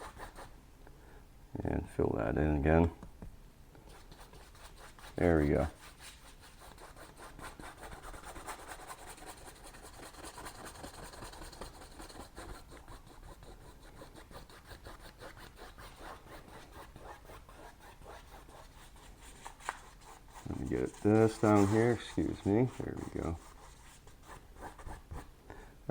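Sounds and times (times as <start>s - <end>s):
brush scrubbing paint on canvas: 3.9s - 25.3s.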